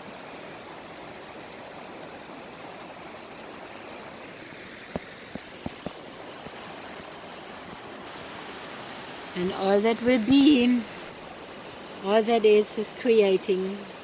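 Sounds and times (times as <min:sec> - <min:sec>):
stream rushing over waterfalls: 0:00.0 - 0:14.0.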